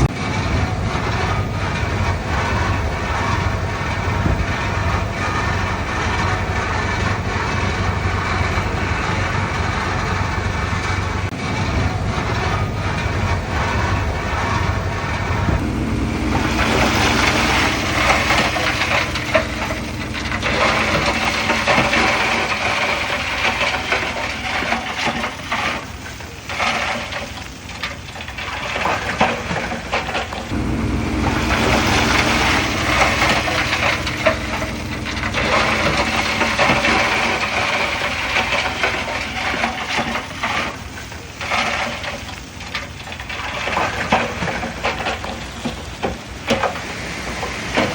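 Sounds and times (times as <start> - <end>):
bulldozer diesel engine: 0.0 - 47.9
tracks rattling and crunching soil: 0.0 - 47.9.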